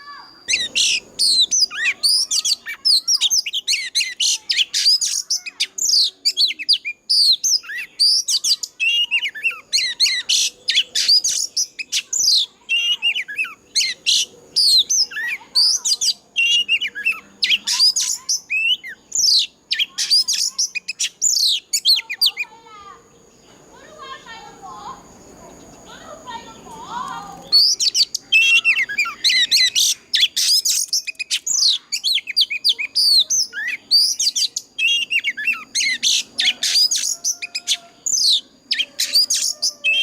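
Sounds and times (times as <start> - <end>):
bird singing whistles and chirps: 0.0 - 22.5, 26.5 - 40.0.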